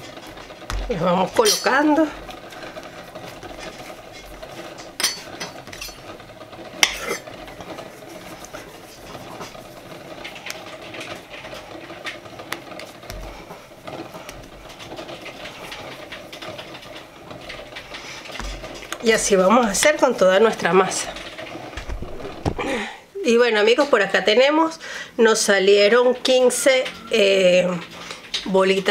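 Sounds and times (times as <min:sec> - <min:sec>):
dough being rolled by hand: 0:00.0 - 0:24.6.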